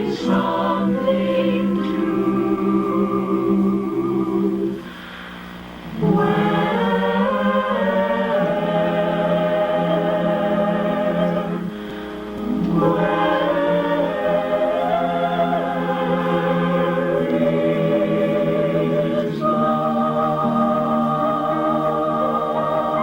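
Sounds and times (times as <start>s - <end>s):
choir singing held chords: 0.0s - 23.0s.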